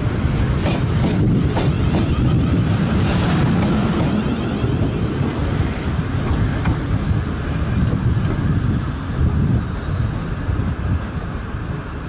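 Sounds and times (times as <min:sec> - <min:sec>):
railway station background noise: 0:00.0 - 0:12.0
wind buffeting microphone: 0:00.0 - 0:12.0.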